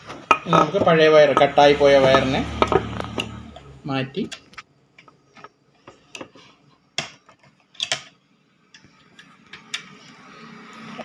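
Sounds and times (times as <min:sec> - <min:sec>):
clicks and knocks of iron parts: 0:00.0 - 0:09.9.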